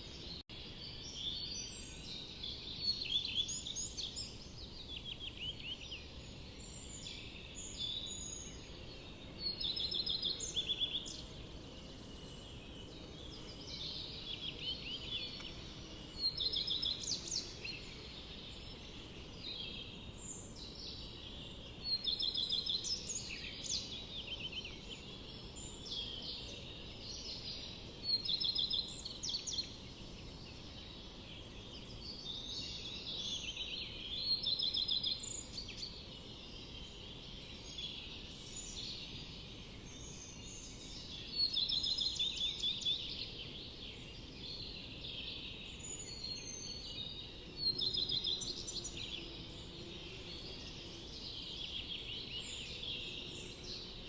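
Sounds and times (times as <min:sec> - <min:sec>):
songbirds singing trills: 0:00.0 - 0:54.0.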